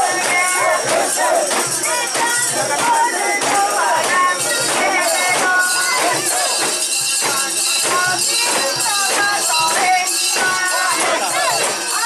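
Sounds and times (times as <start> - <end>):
crowd chanting: 0.0 - 12.0
rhythmic metallic jingle: 0.0 - 12.0.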